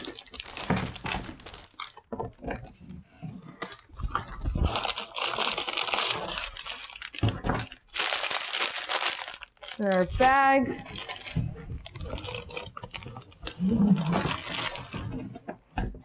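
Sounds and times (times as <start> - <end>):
plastic bag crinkling: 0.0 - 2.1, 3.6 - 15.4.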